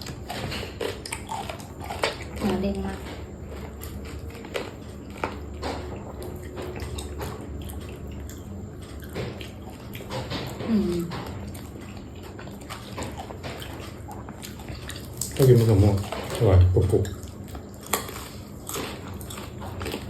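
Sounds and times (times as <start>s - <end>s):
person chewing and smacking: 0.0s - 20.0s.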